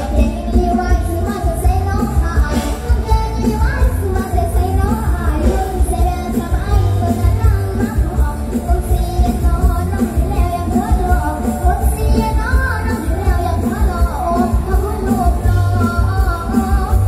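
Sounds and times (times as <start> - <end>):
band music over loudspeakers: 0.0 - 17.0
person singing: 0.0 - 17.0.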